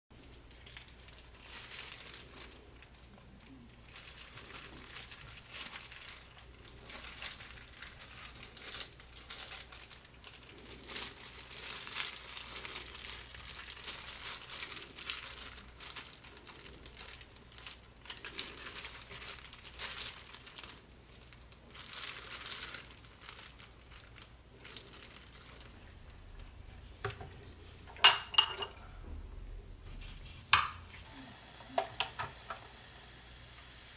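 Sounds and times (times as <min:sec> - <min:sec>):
plastic gloves crinkling: 0:00.2 - 0:31.2.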